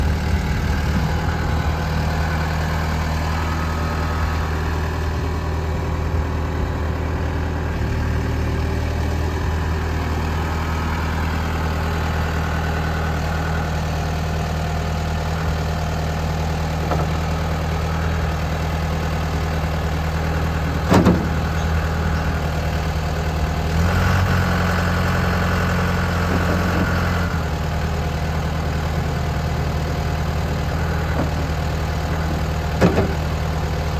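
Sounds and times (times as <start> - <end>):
engine whine: 0.0 - 33.9
tractor diesel engine idling: 0.0 - 33.9.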